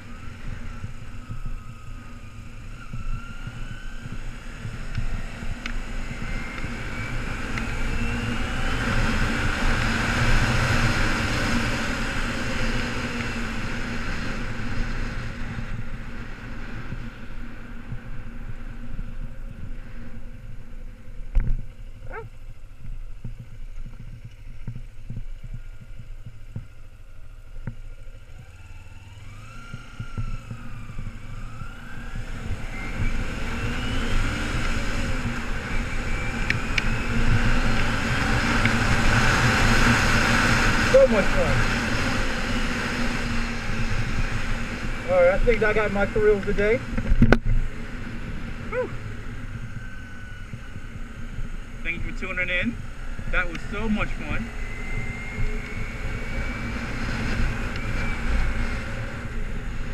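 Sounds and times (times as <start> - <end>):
wind rushing over microphone: 0.0 - 28.0, 28.9 - 59.9
motorcycle engine accelerating: 0.0 - 59.9.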